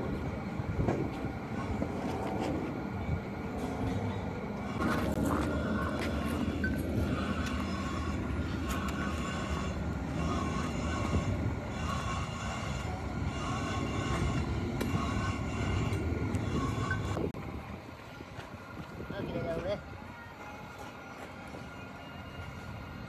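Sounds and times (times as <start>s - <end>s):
high whine: 0.0s - 19.9s
factory machinery rumbling: 0.0s - 23.0s.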